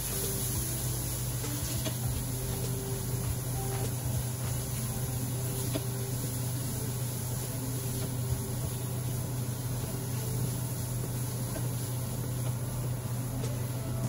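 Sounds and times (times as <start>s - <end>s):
constant low hum: 0.0s - 14.0s
vegetables frying in a pan: 0.0s - 14.0s.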